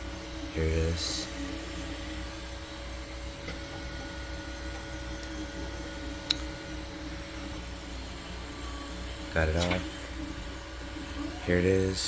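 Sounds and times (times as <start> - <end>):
printer humming with tones: 0.0 - 12.0.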